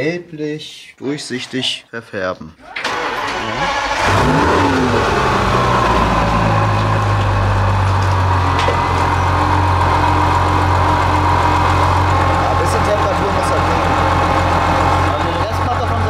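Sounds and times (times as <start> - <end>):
car engine starting and idling: 2.6 - 16.0.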